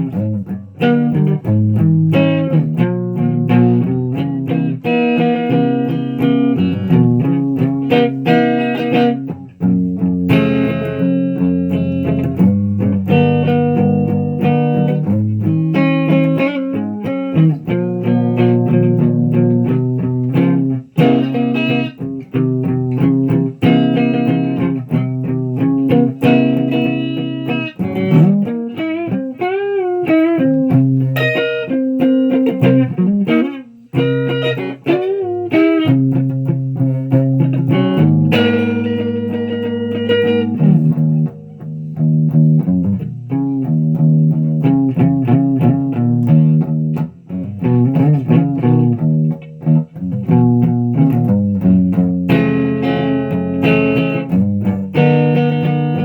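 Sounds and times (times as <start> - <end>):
solo electric guitar: 0.0 - 56.0.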